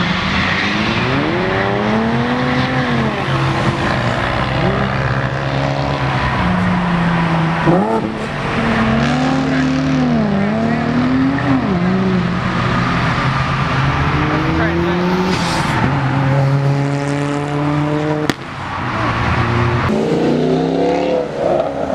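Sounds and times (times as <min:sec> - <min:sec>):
car engine revving: 0:00.0 - 0:21.9
car engines droning: 0:00.0 - 0:21.9.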